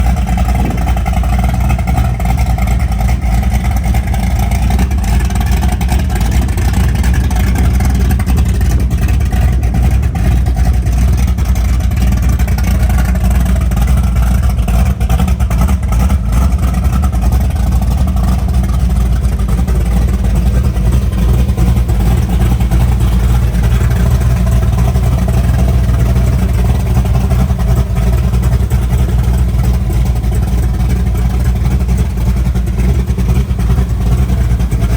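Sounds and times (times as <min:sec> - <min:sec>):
loud engine running: 0:00.0 - 0:34.9.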